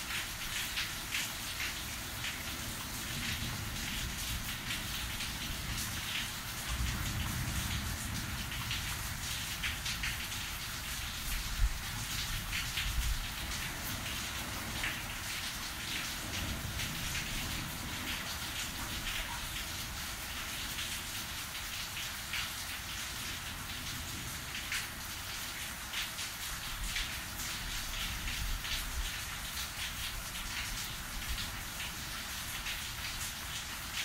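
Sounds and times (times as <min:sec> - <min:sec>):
raindrops hitting close by: 0:00.0 - 0:34.0
steady rain hiss: 0:00.0 - 0:34.0.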